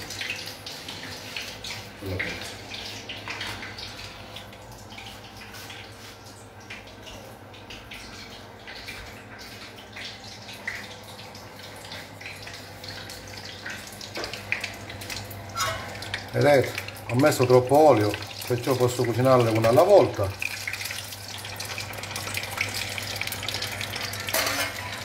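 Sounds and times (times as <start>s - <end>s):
hot oil sizzling and popping: 0.0s - 25.0s.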